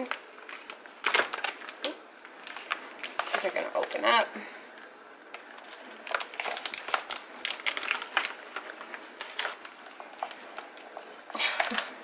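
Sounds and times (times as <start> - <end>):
plastic bag crinkling: 0.0 - 4.3, 5.2 - 12.0.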